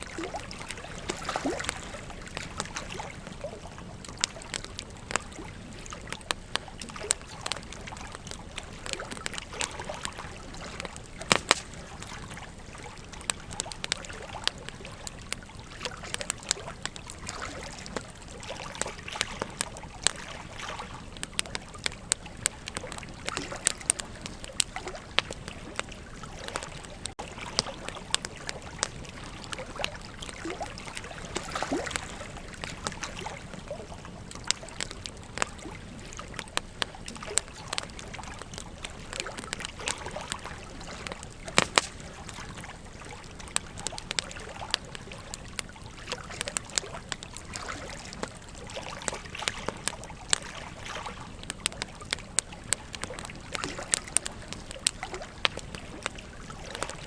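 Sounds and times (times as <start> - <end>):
river water flowing: 0.0 - 57.0
wood fire crackling and popping: 0.0 - 57.0.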